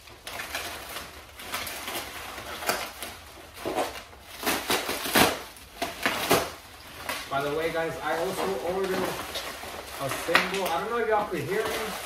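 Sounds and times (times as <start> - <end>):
bubble wrap rustling and crinkling: 0.0 - 12.0.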